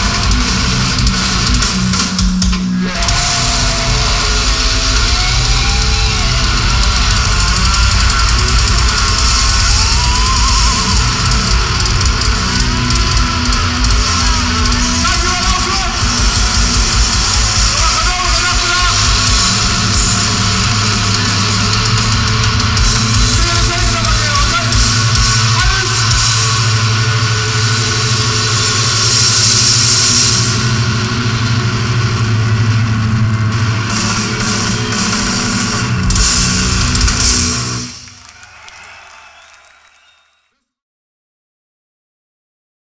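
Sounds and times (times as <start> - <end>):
rapid low drum strokes: 0.0 - 38.0
death metal band playing live: 0.0 - 39.2.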